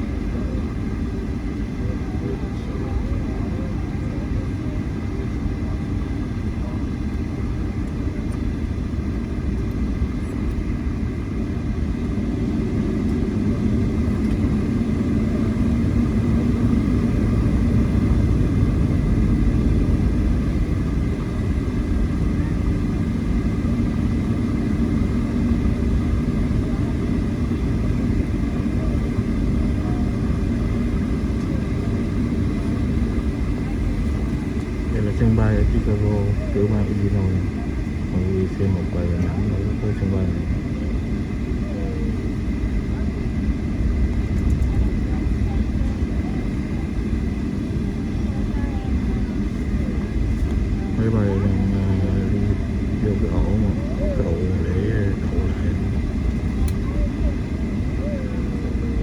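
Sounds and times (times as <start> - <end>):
faint steady whine: 0.0 - 59.0
jet engines low rumble: 0.0 - 59.0.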